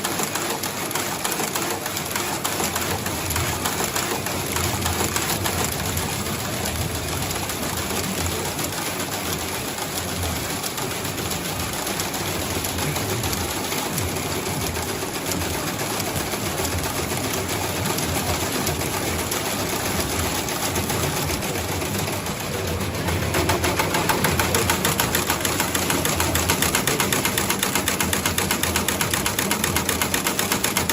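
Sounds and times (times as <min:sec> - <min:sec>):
sewing machine stitching: 0:00.0 - 0:30.9.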